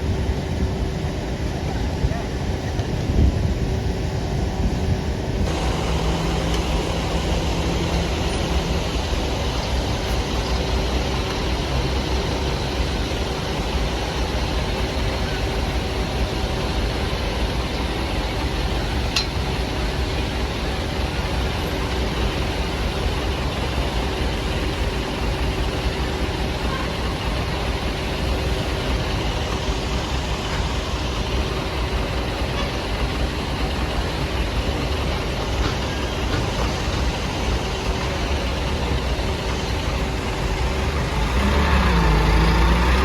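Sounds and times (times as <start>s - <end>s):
road noise: 0.0s - 43.0s
truck engine rumbling: 0.0s - 43.0s.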